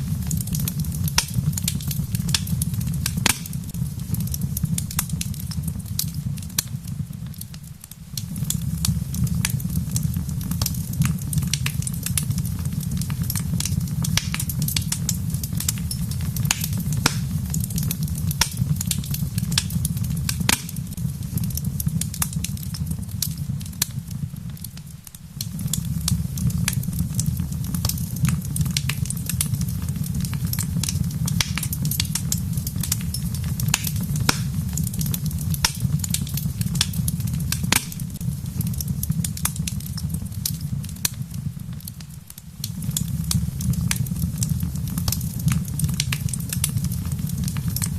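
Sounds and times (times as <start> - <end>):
low fire rumble: 0.0 - 47.9
wood fire crackling: 0.0 - 47.9.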